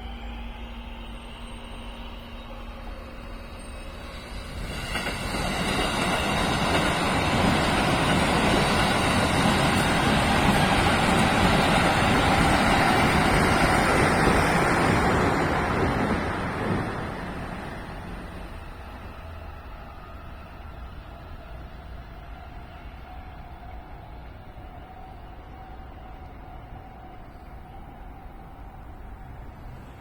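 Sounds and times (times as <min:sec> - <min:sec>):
electric train passing: 0:00.0 - 0:30.0.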